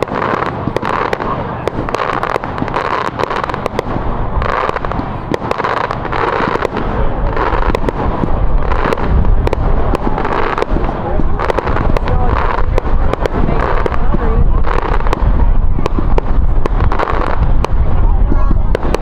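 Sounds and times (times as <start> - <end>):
deep fireworks booms: 0.0 - 19.0
fireworks cracking and banging: 0.0 - 19.0.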